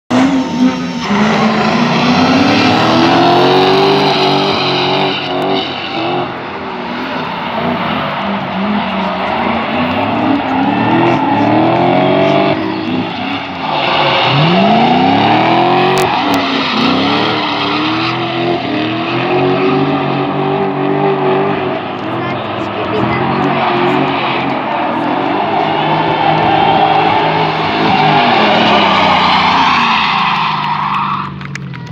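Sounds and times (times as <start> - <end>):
car engines revving: 0.0 - 31.9
tyres screeching on asphalt: 0.1 - 31.6.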